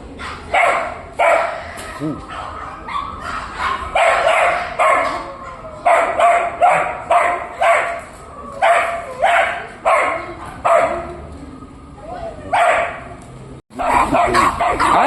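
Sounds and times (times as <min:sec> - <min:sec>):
dog barking: 0:00.2 - 0:08.0, 0:08.6 - 0:11.1, 0:12.5 - 0:13.1, 0:13.7 - 0:15.0.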